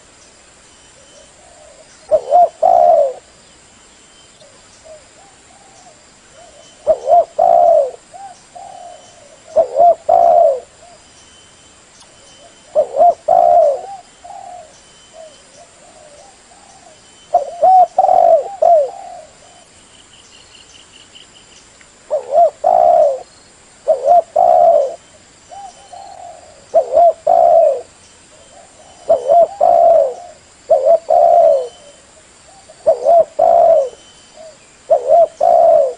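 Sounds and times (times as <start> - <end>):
dove cooing: 1.0 - 3.3, 4.4 - 11.0, 12.4 - 19.7, 22.1 - 35.9.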